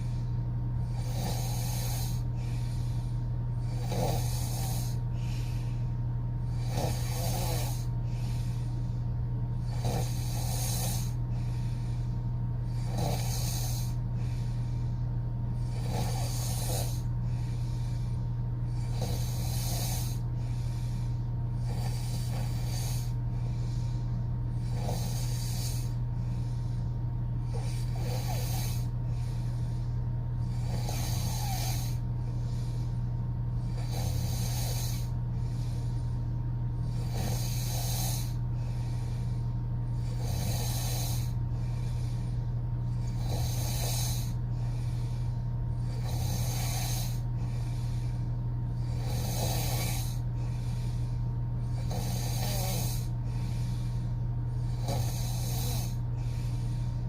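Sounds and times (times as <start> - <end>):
steady low hum: 0.0 - 57.0
woman snoring: 0.0 - 57.0.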